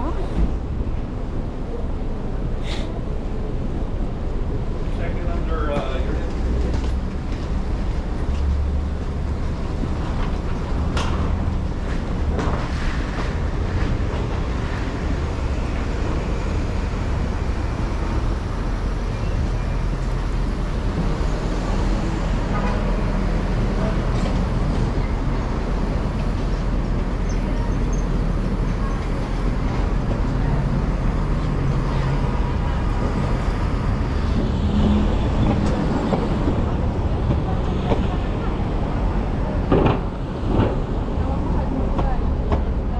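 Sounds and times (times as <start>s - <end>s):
traffic rumble: 0.0s - 42.9s.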